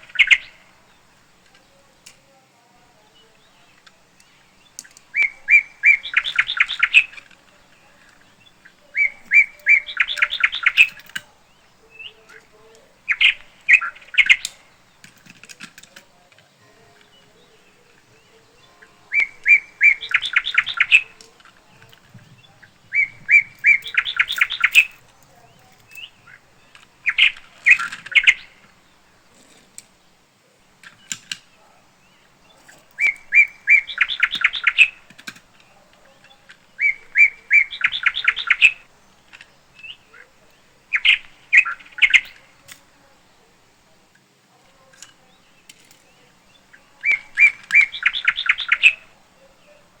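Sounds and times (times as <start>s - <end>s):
bird song with fast trill: 0.0s - 44.0s, 44.6s - 50.0s.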